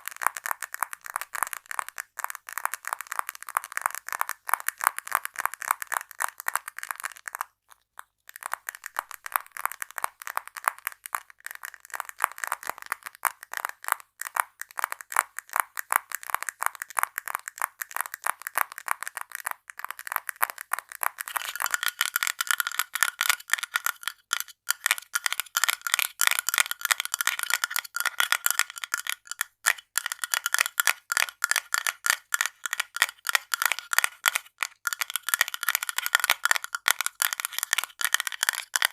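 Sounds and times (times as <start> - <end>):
rapid tapping on small objects: 0.0 - 38.9.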